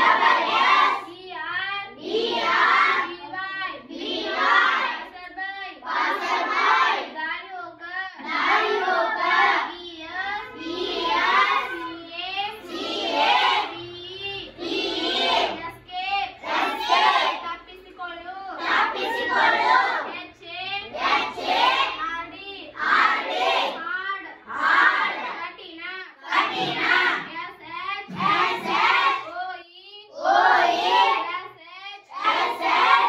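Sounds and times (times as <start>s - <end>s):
girl chanting words: 0.7s - 33.0s.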